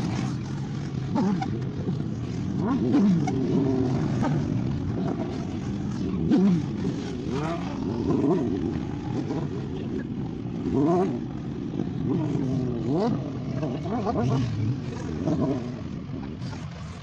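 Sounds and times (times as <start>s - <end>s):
motorcycle engines revving: 0.0s - 17.0s
steady engine drone: 0.0s - 17.0s.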